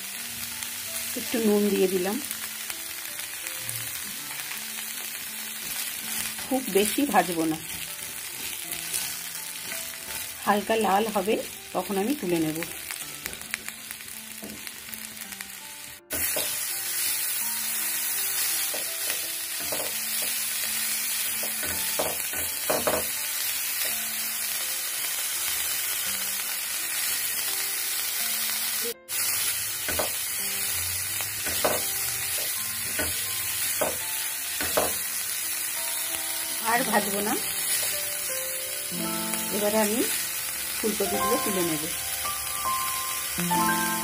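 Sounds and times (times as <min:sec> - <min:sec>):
oil sizzling in pan: 0:00.0 - 0:44.0.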